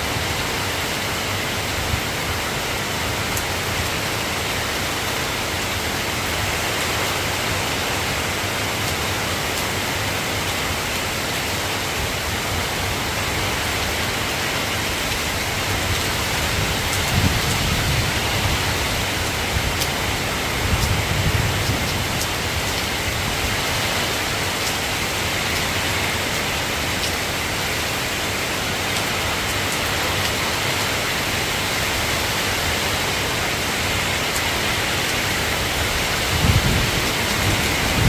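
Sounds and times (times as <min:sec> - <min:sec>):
soft rain falling: 0:00.0 - 0:38.0.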